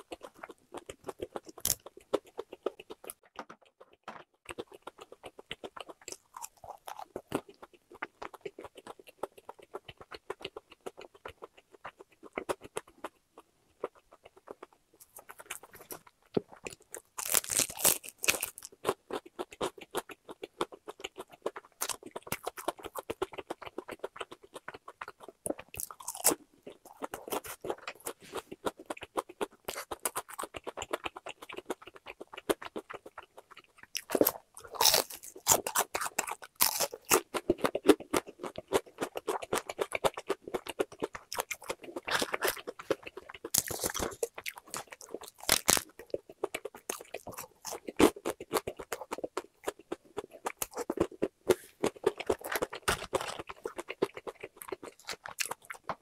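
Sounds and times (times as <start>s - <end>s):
crunching fried chicken: 0.0s - 56.0s.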